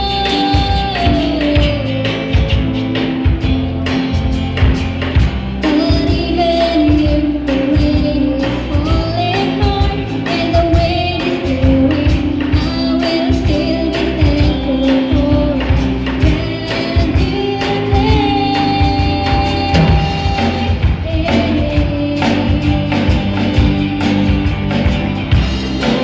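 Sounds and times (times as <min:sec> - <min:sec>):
song with band accompaniment: 0:00.0 - 0:26.0.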